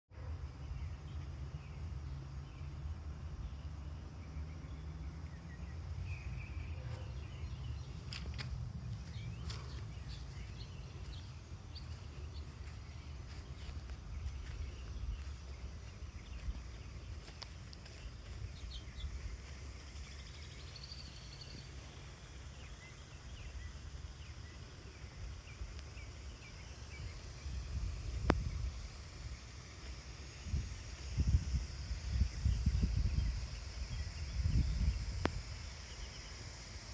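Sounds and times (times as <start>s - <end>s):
birds chirping: 3.5s - 36.9s.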